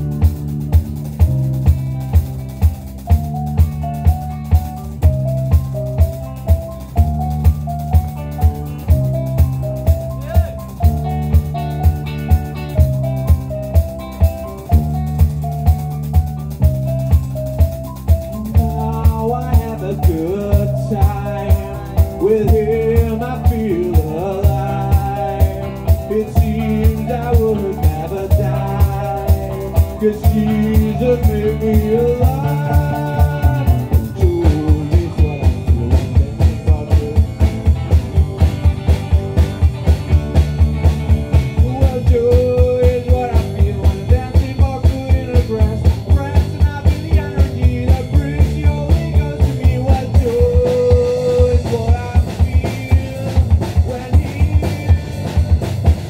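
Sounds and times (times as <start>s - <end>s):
drum kit: 0.0s - 56.0s
electric bass: 0.0s - 56.0s
electric guitar lead melody: 0.0s - 56.0s
keyboard: 0.0s - 56.0s.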